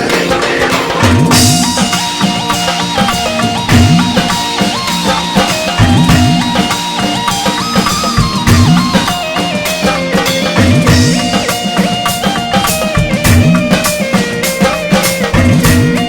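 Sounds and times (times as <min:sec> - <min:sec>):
drum kit beat: 0:00.0 - 0:16.0
keyboard melody: 0:00.0 - 0:16.0.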